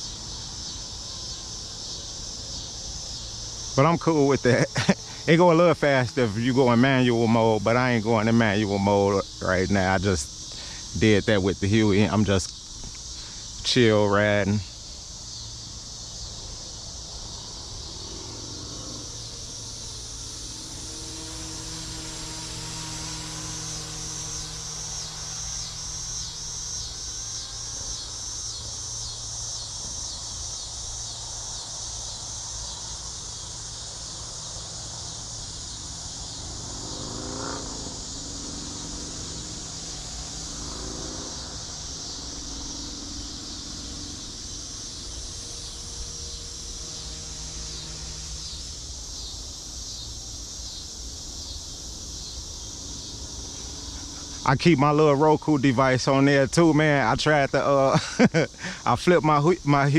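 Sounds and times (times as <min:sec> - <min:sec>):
crickets chirring: 0:00.0 - 0:59.9
low hum: 0:00.0 - 0:59.9.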